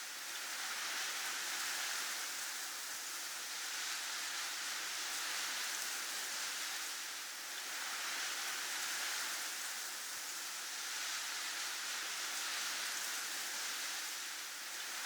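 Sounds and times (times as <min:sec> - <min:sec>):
soft steady hiss: 0:00.0 - 0:15.0.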